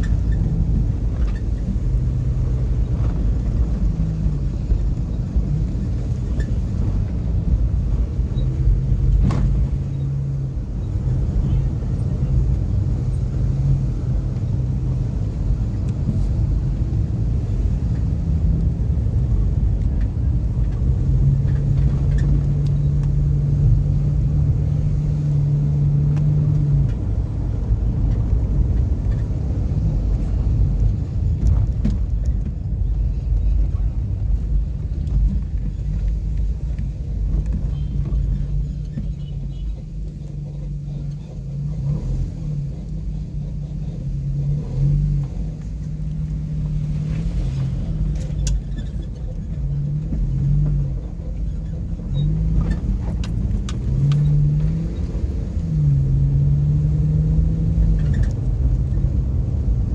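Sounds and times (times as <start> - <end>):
car engine humming: 0.0 - 59.9
road rumble: 0.0 - 59.9.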